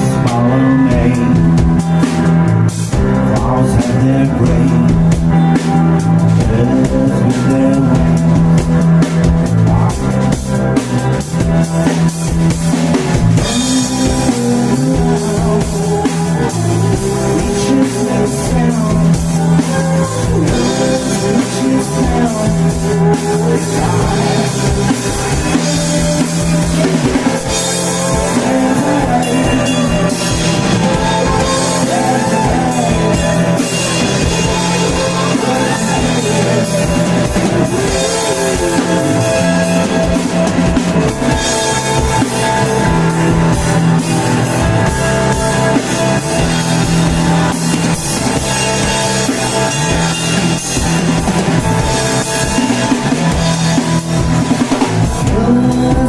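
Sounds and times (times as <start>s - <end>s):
live rock band playing: 0.0s - 56.0s
person singing: 0.0s - 56.0s.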